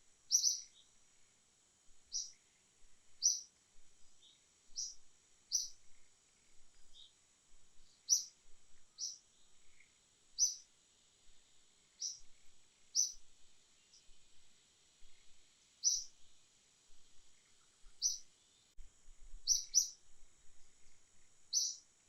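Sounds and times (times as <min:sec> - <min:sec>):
small bird chirping: 0:00.2 - 0:01.4, 0:02.0 - 0:18.8, 0:19.4 - 0:21.9.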